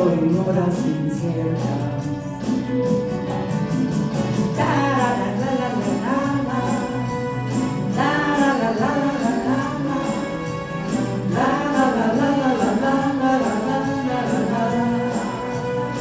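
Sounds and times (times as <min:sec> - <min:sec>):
slow ballad backing track: 0:00.0 - 0:16.0.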